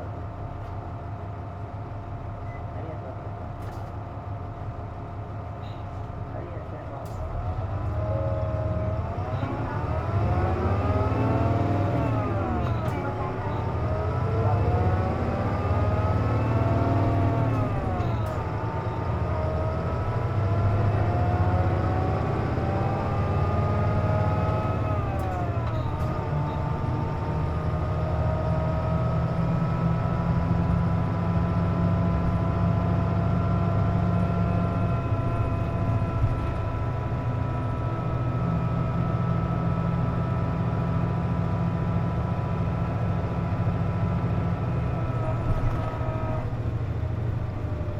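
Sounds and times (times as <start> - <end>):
bus diesel engine rumble: 0.0 - 47.9.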